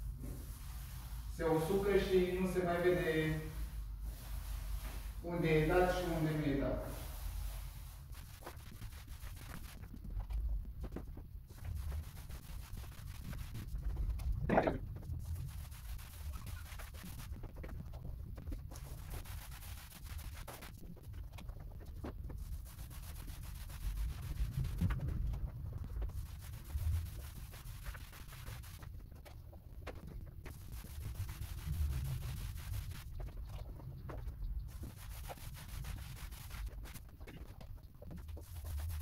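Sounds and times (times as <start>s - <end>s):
paint roller swishing: 0.0s - 14.4s, 15.0s - 39.0s.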